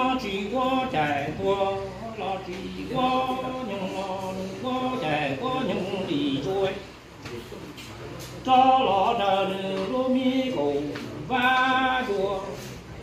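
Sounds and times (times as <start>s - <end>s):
man singing unaccompanied chant: 0.0s - 7.0s, 8.4s - 13.0s.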